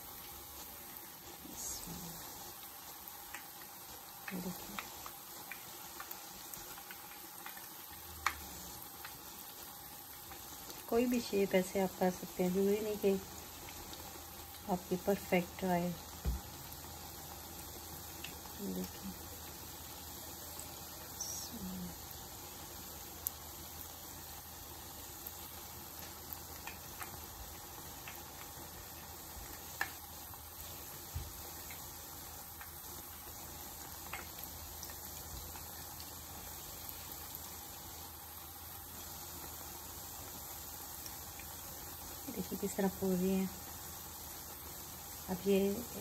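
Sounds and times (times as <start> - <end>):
oil sizzling and bubbling: 0.0 - 46.0.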